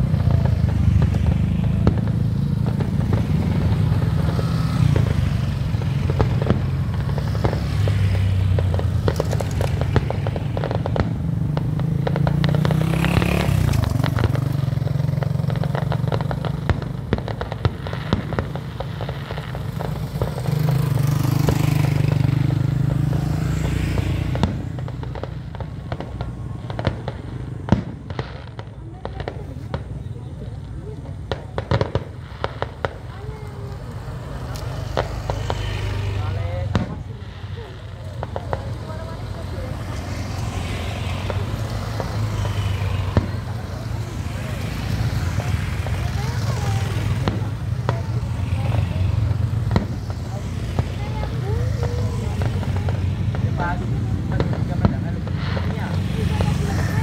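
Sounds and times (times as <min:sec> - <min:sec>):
crackles and clicks: 0:00.0 - 0:57.0.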